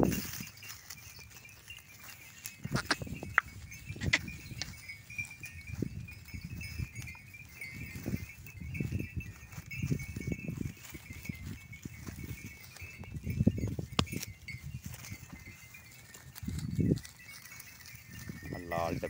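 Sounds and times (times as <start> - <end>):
goats rustling and crunching straw: 0.0 - 19.0.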